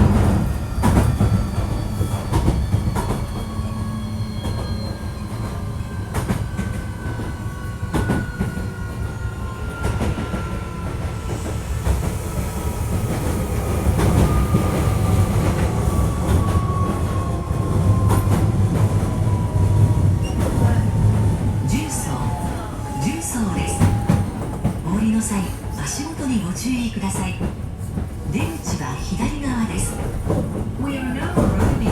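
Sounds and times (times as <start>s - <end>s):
train interior rumble: 0.0s - 31.9s.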